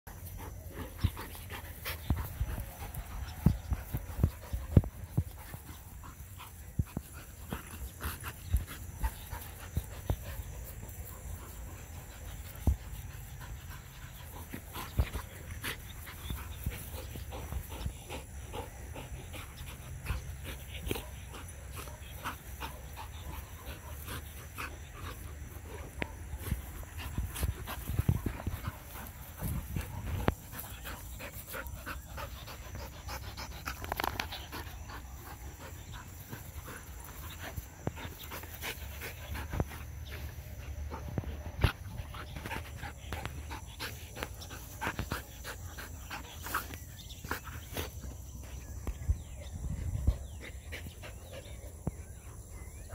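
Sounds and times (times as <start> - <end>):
dogs panting: 0.0 - 52.9.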